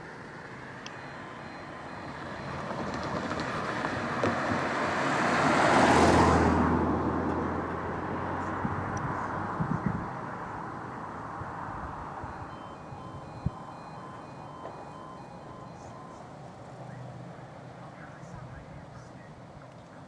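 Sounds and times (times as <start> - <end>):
car driving past: 0.7 - 17.8.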